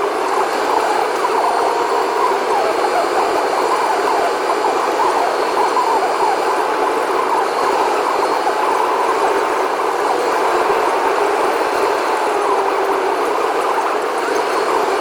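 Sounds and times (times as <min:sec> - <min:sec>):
wavering siren-like whine: 0:00.0 - 0:15.0.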